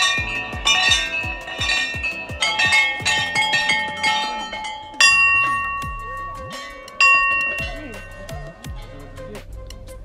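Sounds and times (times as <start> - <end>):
metal bells clanging: 0.0 - 8.9.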